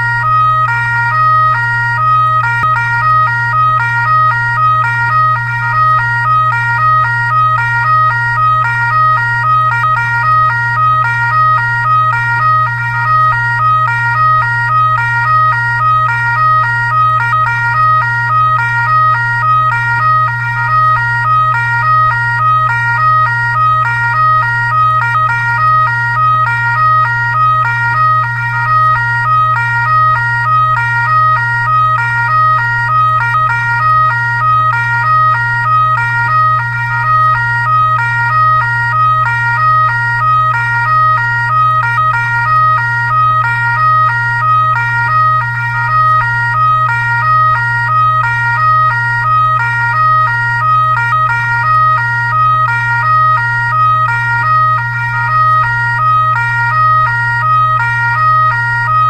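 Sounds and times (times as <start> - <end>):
constant low hum: 0.0 - 59.0
fire truck siren: 0.0 - 59.0.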